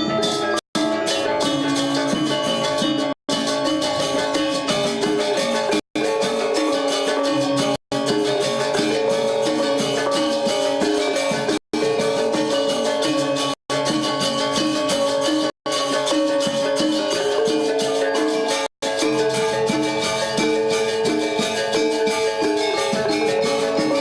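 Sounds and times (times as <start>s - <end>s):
gamelan ensemble playing: 0.0s - 24.0s.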